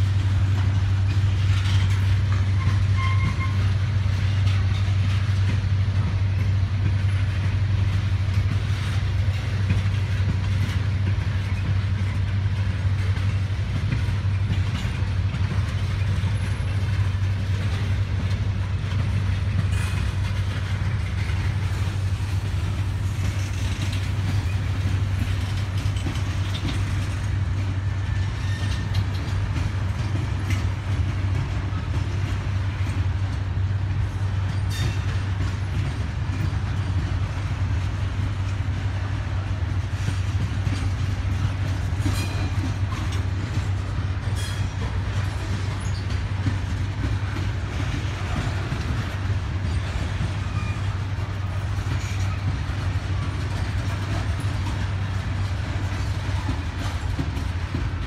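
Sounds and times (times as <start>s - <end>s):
diesel locomotive rumble: 0.0s - 58.0s
train wheels clicking and squeaking: 0.0s - 58.0s.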